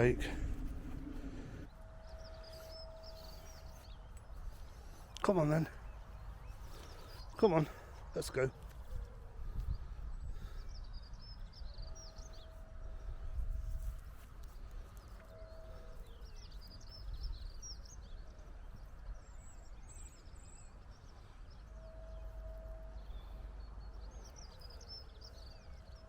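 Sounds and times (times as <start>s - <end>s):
low rumble of wind: 0.0s - 26.0s
small songbirds chirping: 0.0s - 26.0s.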